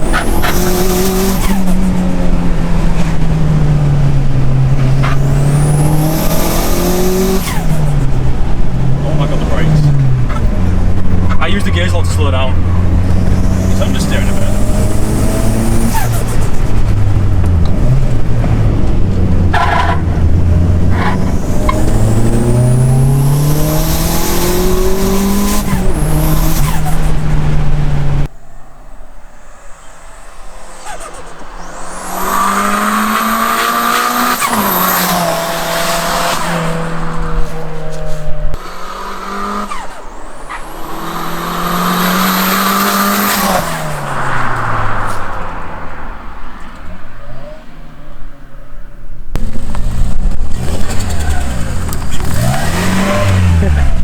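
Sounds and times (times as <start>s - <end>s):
turbocharged car engine accelerating: 0.0s - 47.8s, 49.3s - 54.0s.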